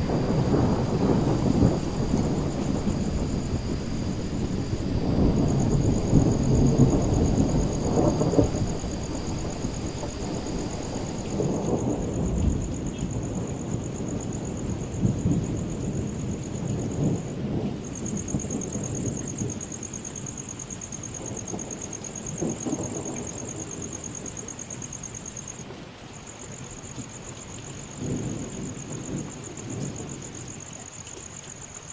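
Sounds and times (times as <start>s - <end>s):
thunder rumbling: 0.0s - 25.7s, 27.8s - 30.6s
steady rain: 0.0s - 31.9s.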